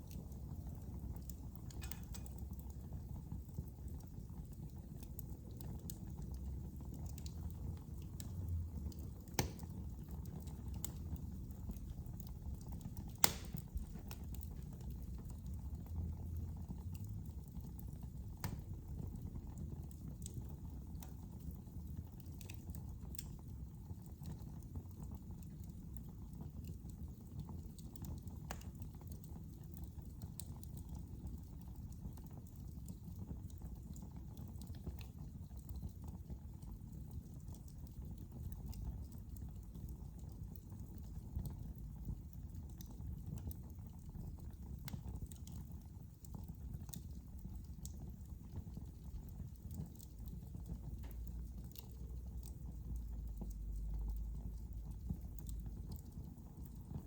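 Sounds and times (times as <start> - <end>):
fire crackles and pops: 0.0 - 57.0
fire rumbling in fireplace: 0.0 - 57.0.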